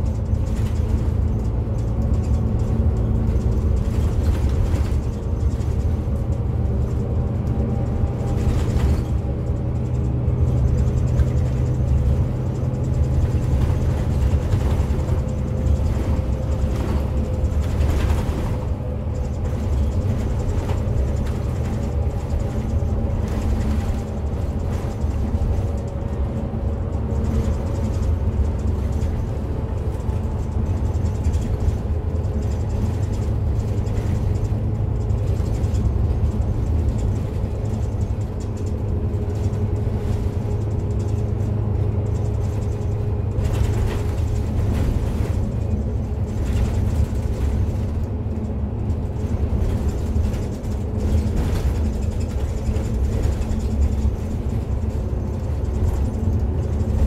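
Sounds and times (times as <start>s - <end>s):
bus diesel engine: 0.0s - 57.0s
road rumble: 0.0s - 57.0s.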